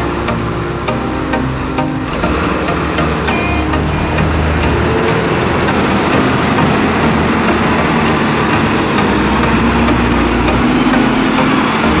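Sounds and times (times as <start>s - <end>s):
dump truck diesel engine droning: 0.0s - 12.0s.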